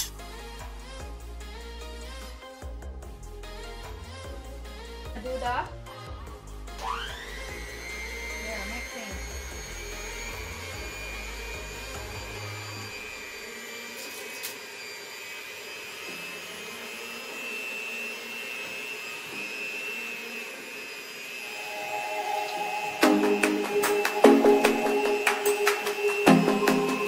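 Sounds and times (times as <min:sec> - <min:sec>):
electric hand mixer running: 0:00.0 - 0:27.0.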